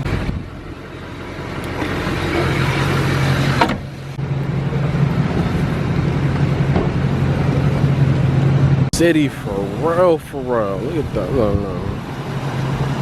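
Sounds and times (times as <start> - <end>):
street noise: 0.0 - 13.0
vehicle engine humming: 0.0 - 13.0.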